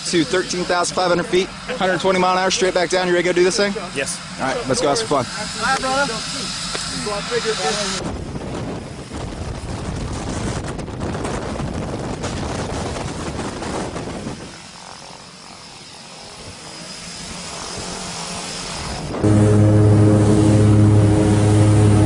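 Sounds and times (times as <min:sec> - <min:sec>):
propeller airplane engine drone: 0:00.0 - 0:22.0.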